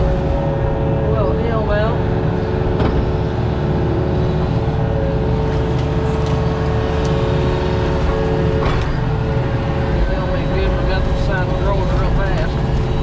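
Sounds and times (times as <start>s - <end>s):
diesel engine running under load: 0.0s - 13.0s
hydraulic whine: 0.0s - 13.0s.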